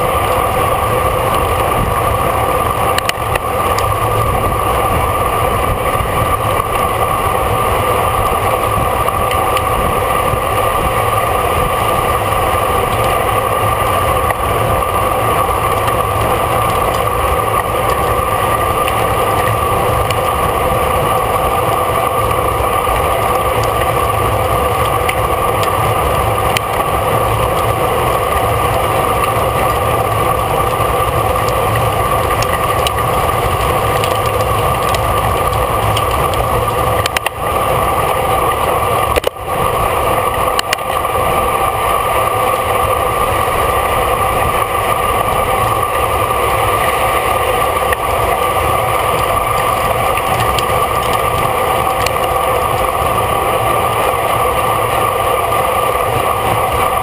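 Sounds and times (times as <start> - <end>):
bicycle road noise: 0.0 - 57.0
constant hum: 0.0 - 57.0
wind noise: 0.0 - 57.0.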